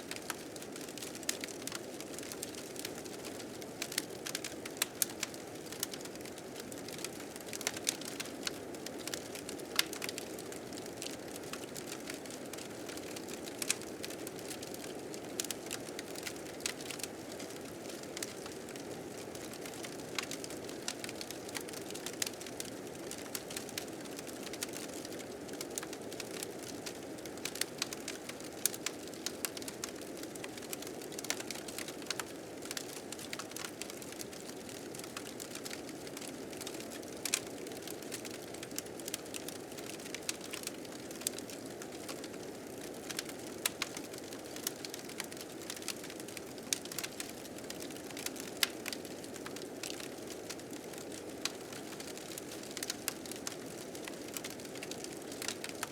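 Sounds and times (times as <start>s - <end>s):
wood fire crackling and popping: 0.1s - 55.9s.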